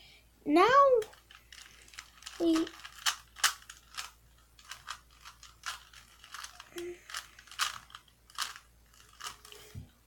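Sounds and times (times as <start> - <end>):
plastic puzzle cube clicking: 1.0 - 9.6.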